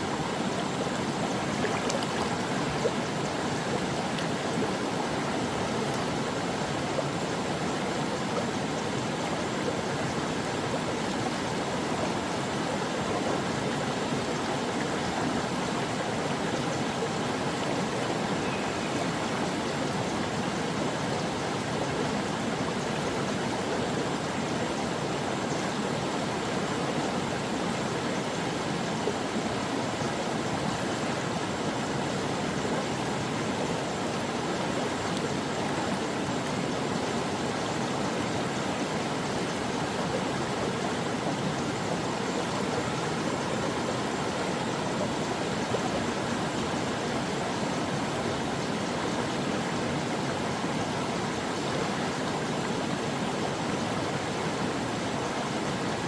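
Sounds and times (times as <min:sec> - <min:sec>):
stream water flowing over rocks: 0:00.0 - 0:56.0.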